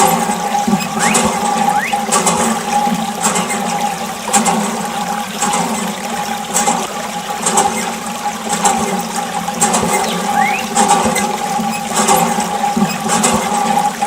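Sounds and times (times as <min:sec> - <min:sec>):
water rushing and splashing: 0:00.0 - 0:14.0.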